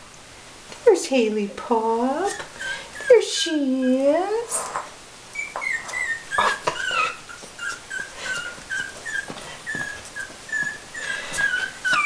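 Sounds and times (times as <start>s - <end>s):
puppy whimpering: 2.1s - 12.0s.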